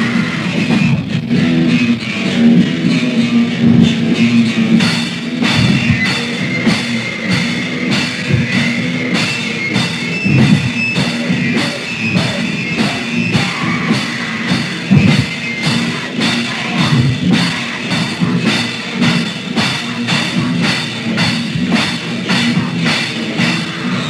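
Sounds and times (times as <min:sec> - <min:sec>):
fast drum beat: 0:00.0 - 0:24.0
punk band playing: 0:00.0 - 0:24.0.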